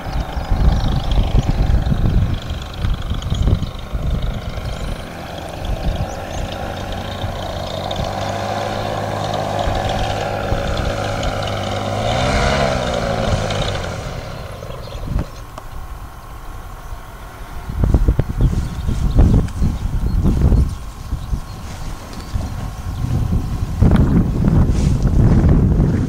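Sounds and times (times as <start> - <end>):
paramotor engine and propeller droning: 0.0 - 26.0
wind buffeting microphone: 0.0 - 26.0.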